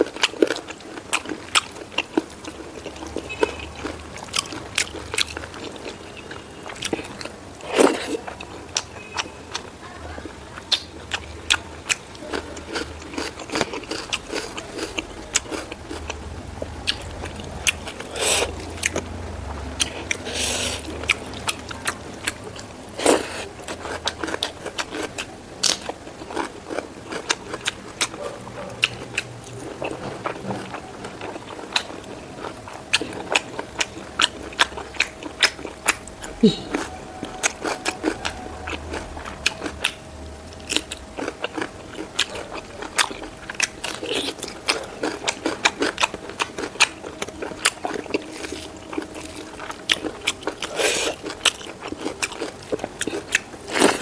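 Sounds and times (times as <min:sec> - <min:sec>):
chewing and smacking: 0:00.0 - 0:54.0.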